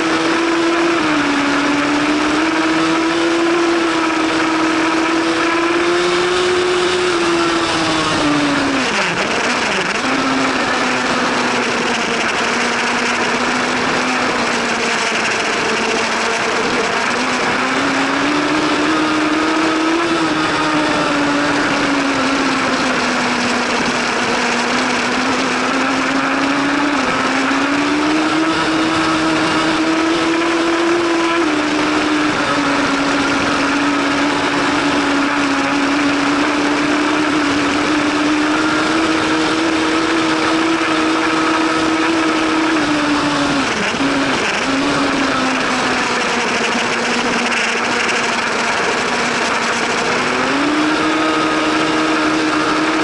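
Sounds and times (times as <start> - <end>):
constant rushing noise: 0.0 - 53.0
motorcycle engine at high revs: 0.0 - 53.0.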